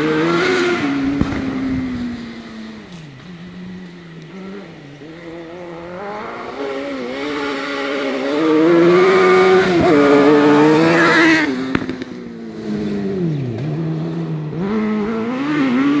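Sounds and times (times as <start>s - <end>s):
motorcycle engine revving hard: 0.0s - 16.0s.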